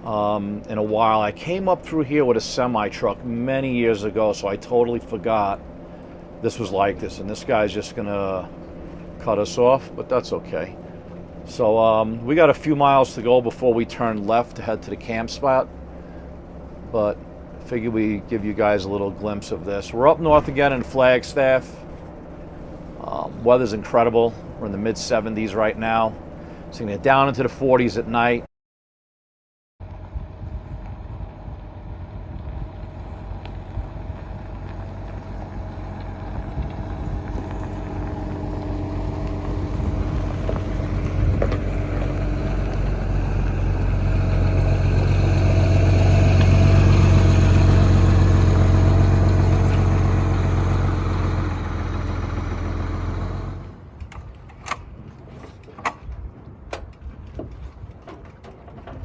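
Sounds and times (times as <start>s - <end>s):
large vehicle engine and road noise: 0.0s - 28.5s, 29.8s - 59.0s.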